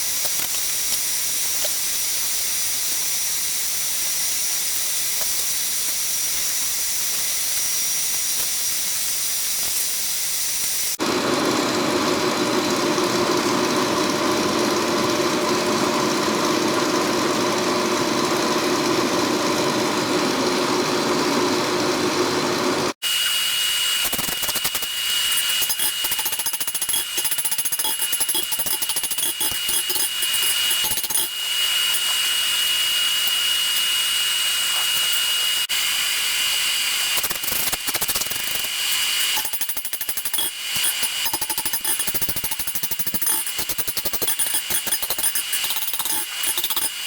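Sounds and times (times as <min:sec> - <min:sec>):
metalworking power tool: 0:00.0 - 0:47.0.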